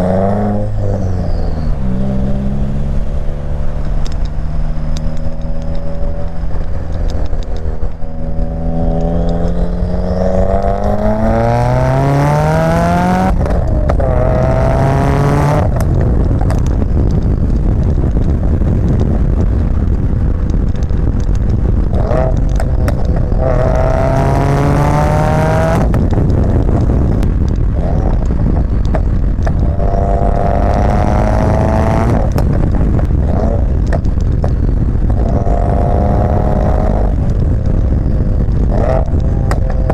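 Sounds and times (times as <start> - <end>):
car engine accelerating hard: 0.0 - 39.9
low exhaust rumble: 0.0 - 39.9.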